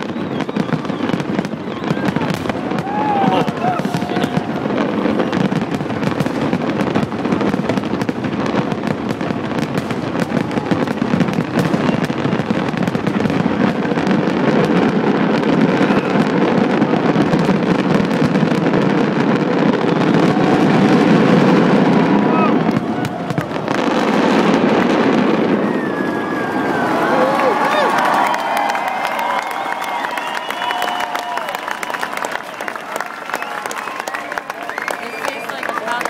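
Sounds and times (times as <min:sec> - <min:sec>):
fireworks crackling and popping: 0:00.0 - 0:36.0.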